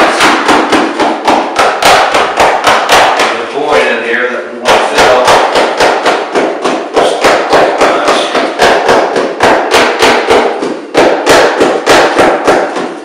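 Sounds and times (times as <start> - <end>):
hand slapping wet concrete: 0.0 - 3.4, 4.6 - 13.0.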